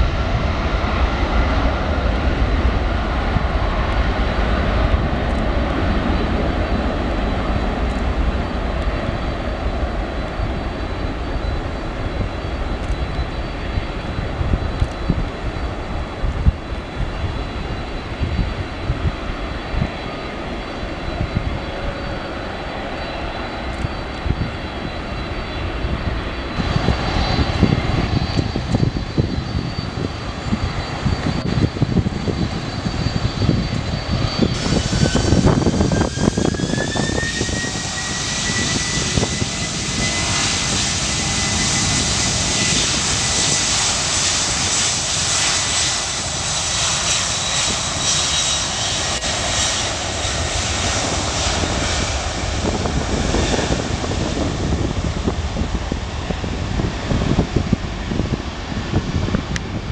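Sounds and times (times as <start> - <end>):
jet climbing away rumble: 0.0 - 59.9
jet engines spooling up: 0.0 - 59.9.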